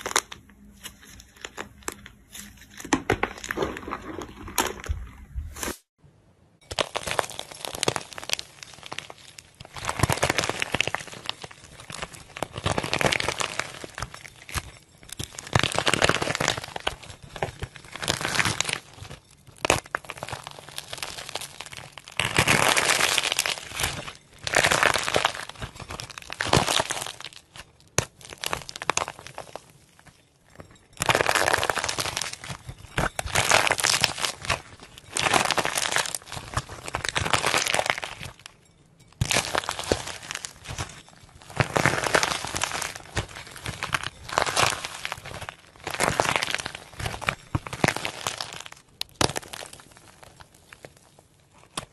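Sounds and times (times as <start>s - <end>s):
dry clay cracking and crinkling: 0.0s - 5.8s, 6.6s - 51.9s.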